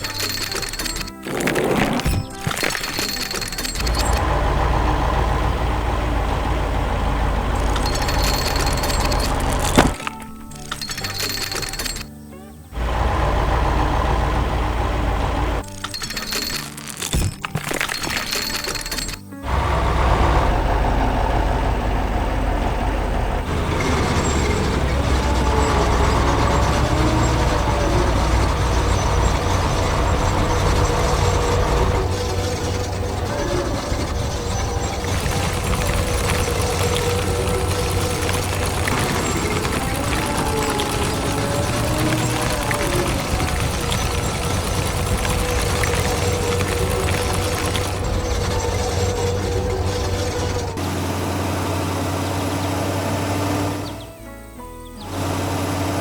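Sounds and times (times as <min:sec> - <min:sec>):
heavy machine engine rumble: 0:00.0 - 0:54.2.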